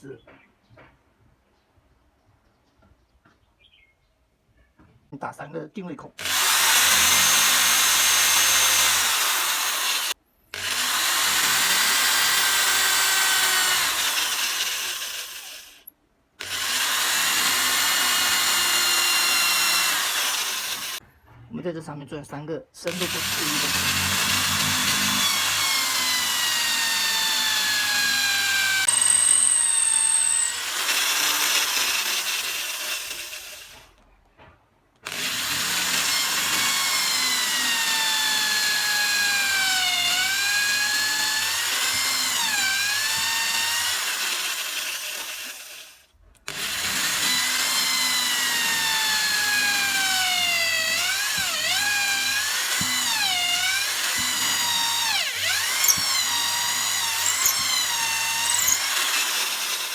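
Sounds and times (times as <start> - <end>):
electric drill whining: 6.2 - 21.0, 22.9 - 33.9, 35.0 - 59.9.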